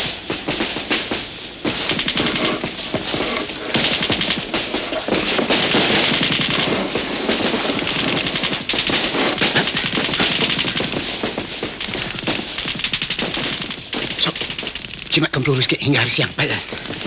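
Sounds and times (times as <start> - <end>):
rapid gunfire: 0.0 - 17.0.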